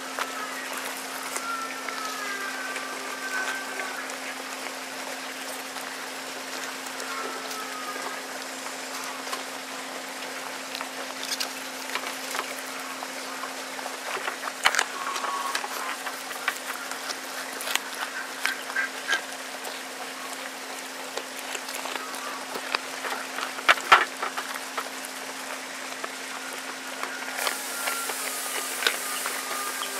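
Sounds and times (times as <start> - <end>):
faint steady hum: 0.0 - 29.9
goat crunching apple and carrot: 0.0 - 29.9.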